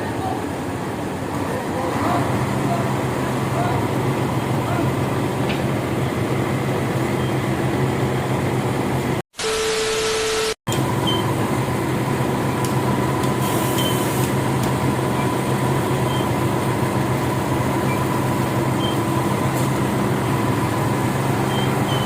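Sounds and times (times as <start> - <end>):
heavy diesel engine running: 0.0 - 9.2, 10.7 - 22.0.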